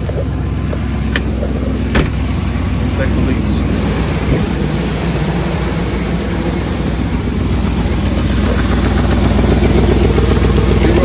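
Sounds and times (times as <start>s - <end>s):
pickup engine idling: 0.0s - 11.0s.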